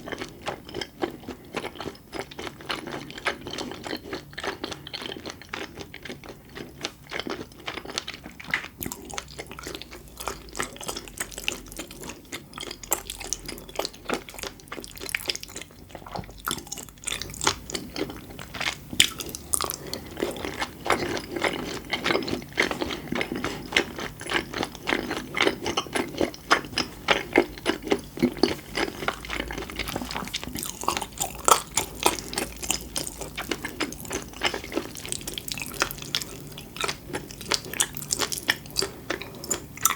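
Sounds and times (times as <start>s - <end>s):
close-miked food chewing: 0.0s - 39.9s.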